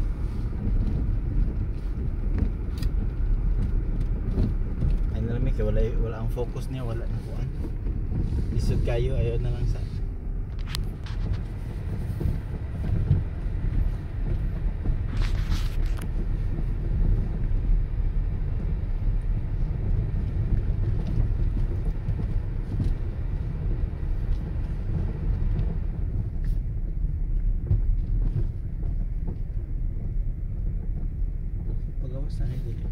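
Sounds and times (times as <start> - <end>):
car engine and tyre rumble: 0.0 - 32.9.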